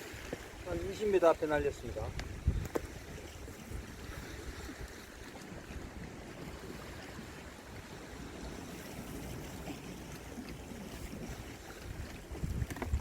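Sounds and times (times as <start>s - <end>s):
sea waves washing: 0.0s - 13.0s
wind rumbling on microphone: 0.0s - 13.0s.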